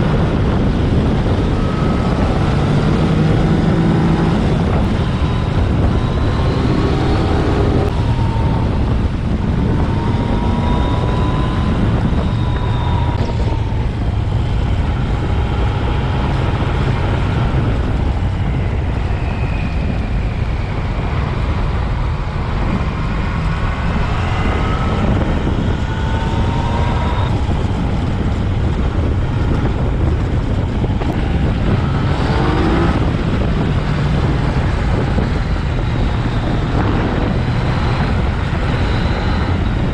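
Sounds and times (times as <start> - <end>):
motorcycle engine accelerating: 0.0 - 39.9
wind and road rumble: 0.0 - 39.9.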